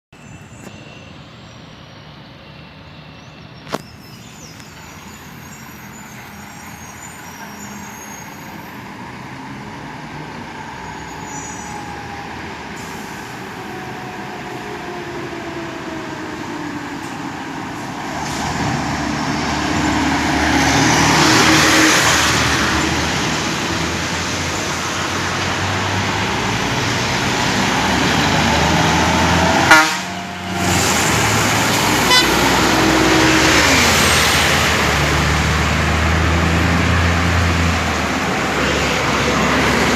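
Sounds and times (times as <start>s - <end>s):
truck engine passing: 5.1s - 39.9s.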